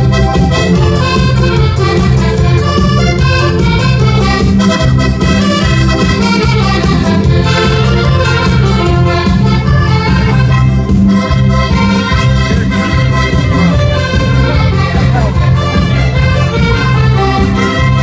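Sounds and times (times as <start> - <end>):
live band dance music over pa: 0.0 - 18.0.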